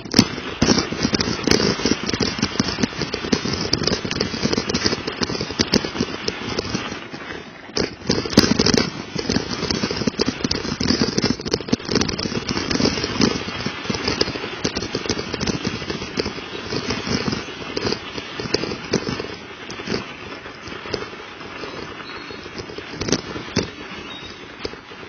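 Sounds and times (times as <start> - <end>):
bike clicks and rattles: 0.0 - 25.0
bike tyres crunching on icy snow: 0.0 - 25.0.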